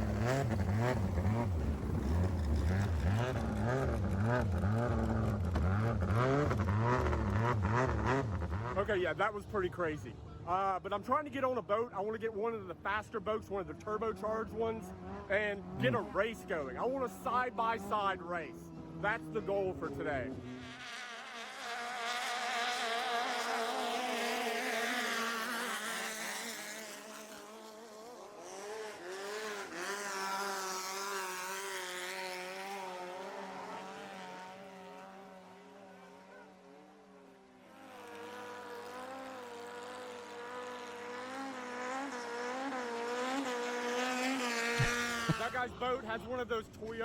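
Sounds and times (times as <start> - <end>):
racing boat engines at high revs: 0.0 - 9.5, 13.8 - 47.0.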